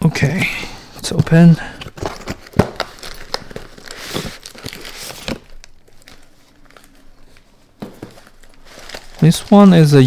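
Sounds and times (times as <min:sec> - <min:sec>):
cardboard and paper crinkling: 0:01.2 - 0:10.0.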